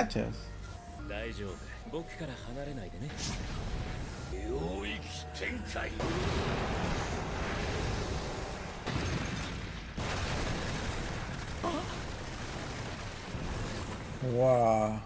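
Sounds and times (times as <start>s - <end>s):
rumble of blasts and explosions: 2.5s - 15.0s.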